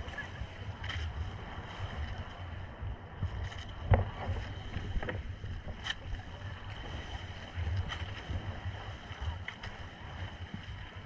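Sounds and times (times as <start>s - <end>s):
water splashing along a hull: 0.0s - 11.0s
wind buffeting the microphone: 0.0s - 11.0s.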